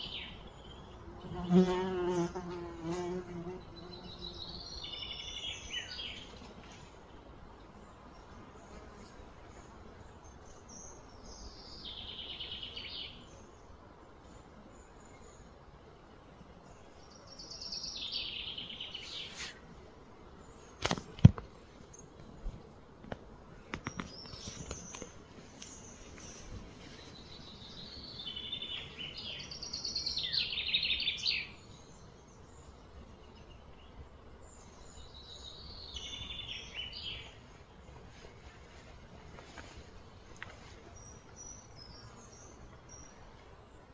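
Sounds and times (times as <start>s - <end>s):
songbird chirping: 0.0s - 22.8s, 23.5s - 43.9s
faint outdoor background noise: 0.0s - 43.9s
low background noise: 0.0s - 43.9s.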